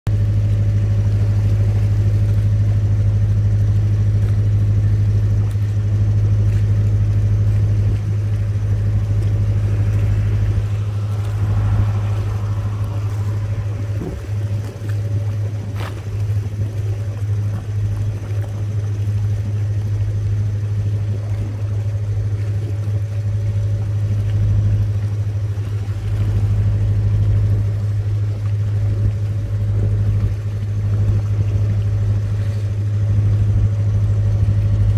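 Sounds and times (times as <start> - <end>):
boat engine low hum: 0.0 - 34.9.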